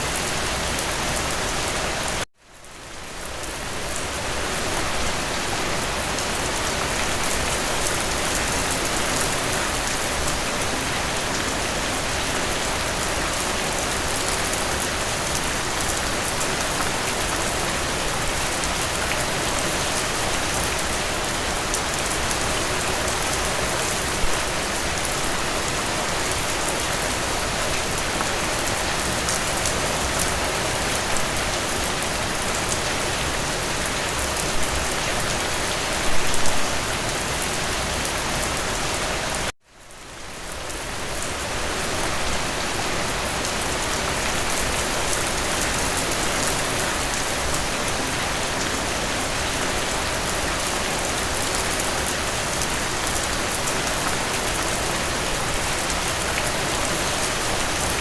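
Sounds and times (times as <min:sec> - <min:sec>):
rain on hard surface: 0:00.0 - 0:58.0.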